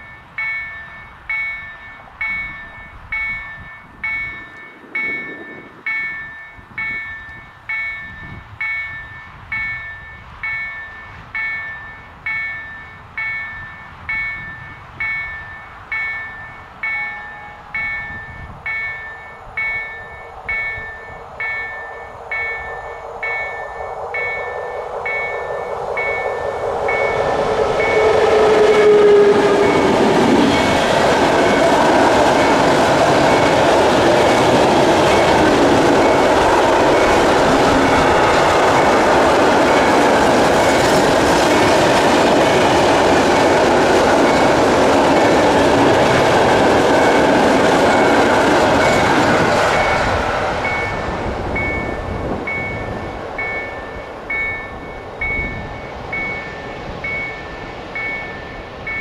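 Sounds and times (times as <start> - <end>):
freight train passing: 0.0 - 59.0
level crossing warning bell: 0.0 - 59.0.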